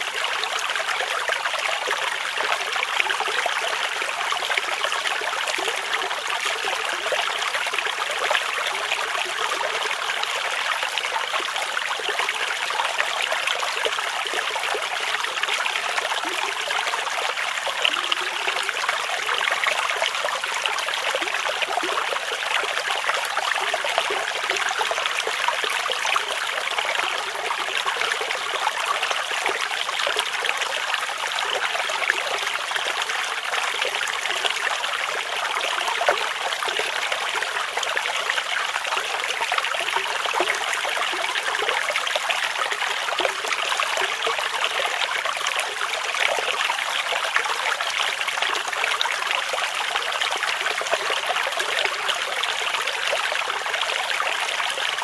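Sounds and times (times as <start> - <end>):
stream flowing over stones: 0.0 - 55.0.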